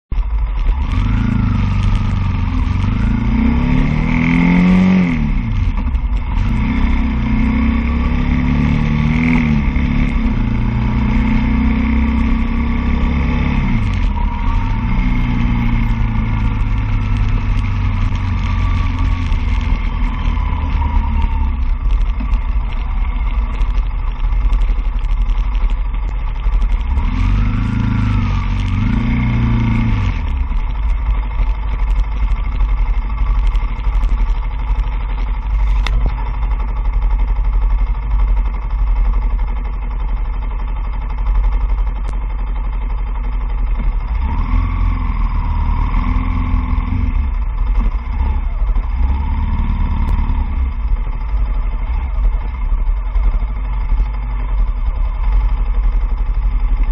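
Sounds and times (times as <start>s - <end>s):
low traffic rumble: 0.1s - 56.9s.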